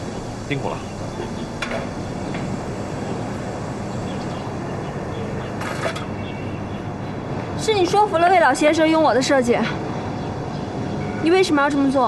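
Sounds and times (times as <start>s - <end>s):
urban background hum: 0.0s - 12.0s.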